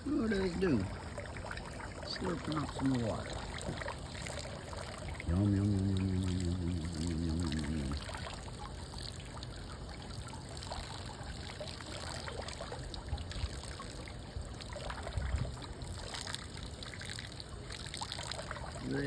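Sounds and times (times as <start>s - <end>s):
hose water trickling into water: 0.0s - 19.0s.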